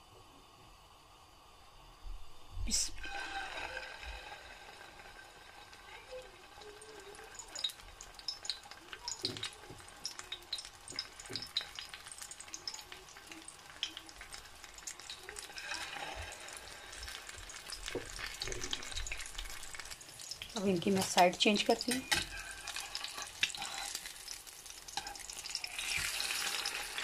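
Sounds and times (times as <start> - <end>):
food sizzling in hot oil: 2.4 - 27.0.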